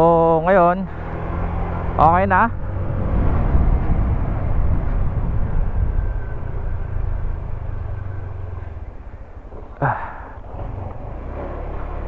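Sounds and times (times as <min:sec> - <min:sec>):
vehicle engine hum and road noise: 0:00.0 - 0:12.0.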